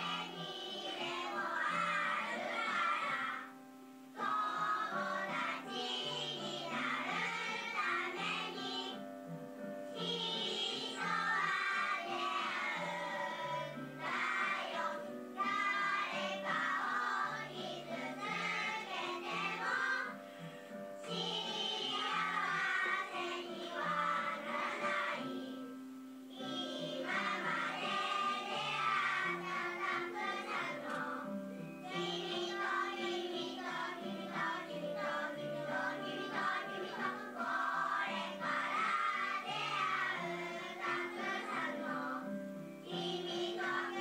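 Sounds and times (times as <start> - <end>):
children singing in unison: 0.0 - 3.6, 4.2 - 9.1, 10.0 - 44.0.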